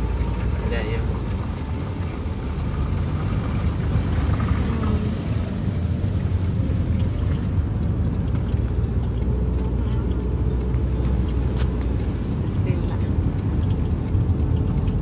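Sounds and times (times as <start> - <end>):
vehicle low rumble: 0.0 - 15.0
faint ticks: 0.1 - 15.0.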